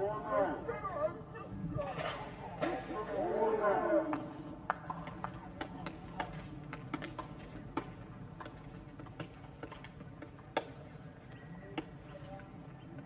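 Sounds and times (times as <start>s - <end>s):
faint low murmur: 0.0s - 13.0s.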